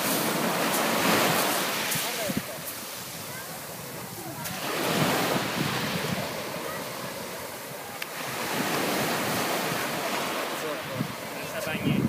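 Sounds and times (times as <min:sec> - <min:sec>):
waves breaking on pebble beach: 0:00.0 - 0:12.0.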